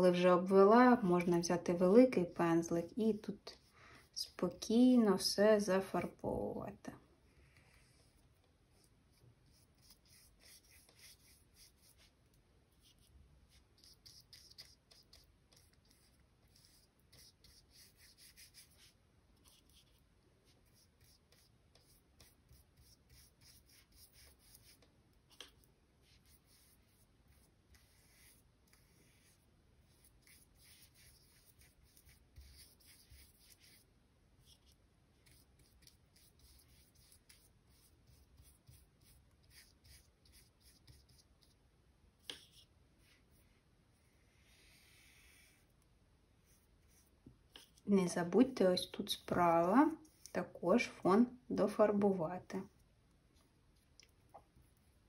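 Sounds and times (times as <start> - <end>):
paintbrush swishing on paper: 1.2 - 5.3, 7.2 - 41.6, 42.2 - 45.8, 46.4 - 50.9.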